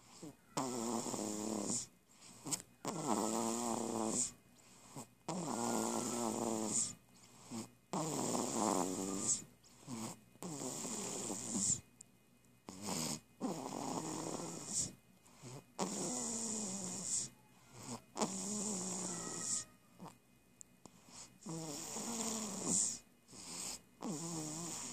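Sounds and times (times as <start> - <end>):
buzzing snore: 0.0 - 11.8, 12.7 - 20.2, 20.8 - 24.9.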